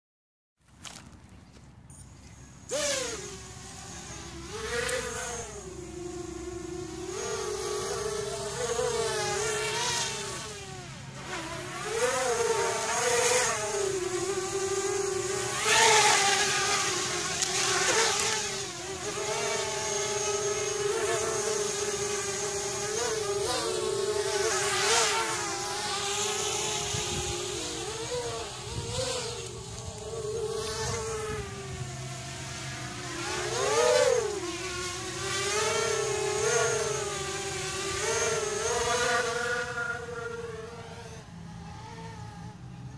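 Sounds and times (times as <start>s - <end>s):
quadcopter propellers whining buzz: 1.6s - 42.9s.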